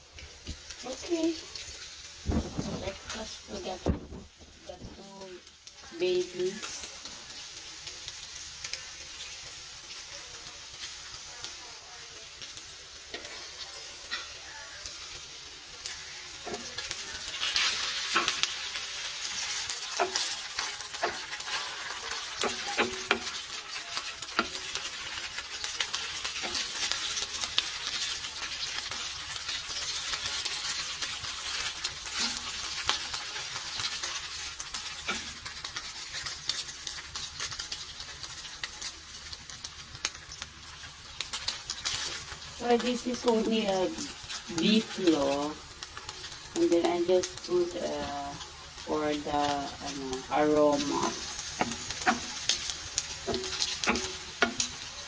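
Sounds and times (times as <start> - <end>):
meat sizzling in frying pan: 0.0 - 55.0.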